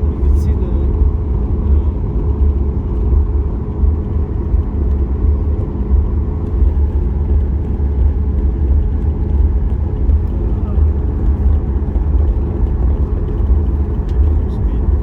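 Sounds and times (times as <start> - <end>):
airplane engines low rumble: 0.0 - 15.0.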